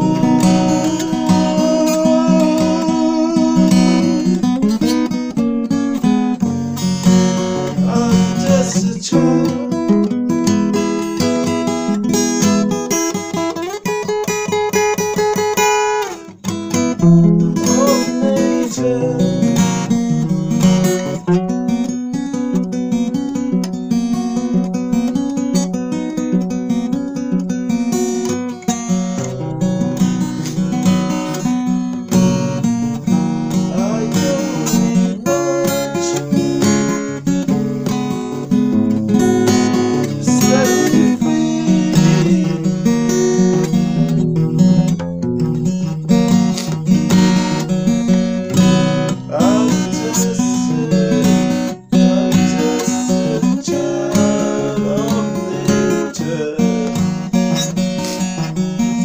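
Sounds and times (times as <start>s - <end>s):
acoustic guitar strummed and plucked: 0.0s - 59.0s.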